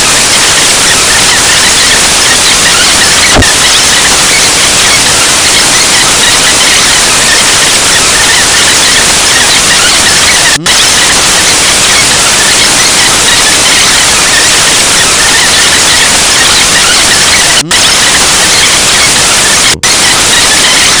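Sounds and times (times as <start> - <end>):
loud static hiss: 0.0 - 21.0.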